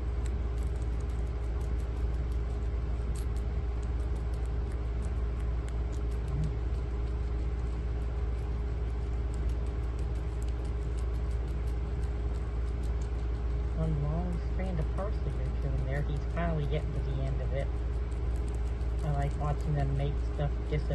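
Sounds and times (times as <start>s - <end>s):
guinea pigs chewing: 0.0s - 20.9s
steady low hum: 0.0s - 20.9s.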